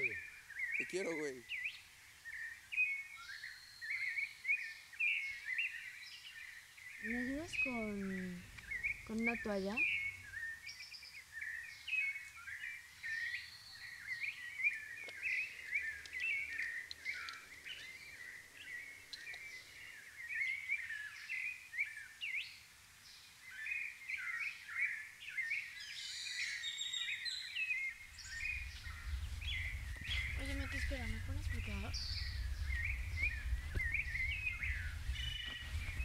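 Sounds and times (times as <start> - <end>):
songbirds chirping and singing: 0.0 - 36.0.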